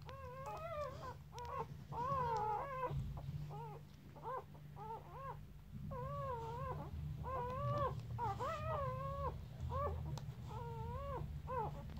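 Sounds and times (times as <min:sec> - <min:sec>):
puppy whining squeals: 0:00.0 - 0:11.9.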